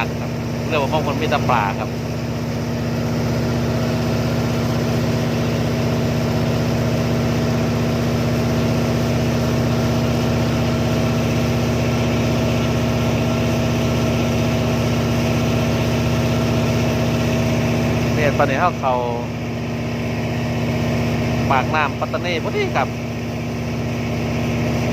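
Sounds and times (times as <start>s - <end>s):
boat engine running: 0.0s - 24.9s.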